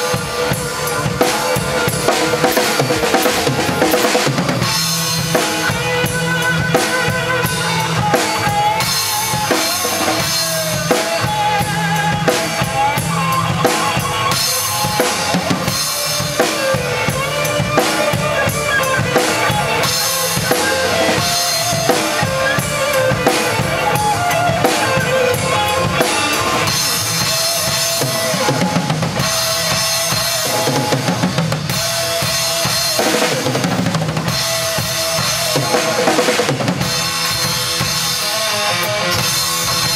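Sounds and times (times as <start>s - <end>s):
acoustic drum kit playing: 0.0s - 39.9s
recorded rock song: 0.0s - 39.9s.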